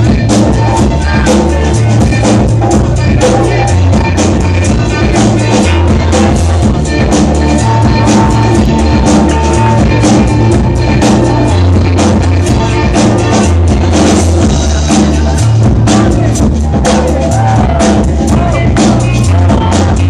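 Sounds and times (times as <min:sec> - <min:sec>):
dance music with heavy beat: 0:00.0 - 0:20.0.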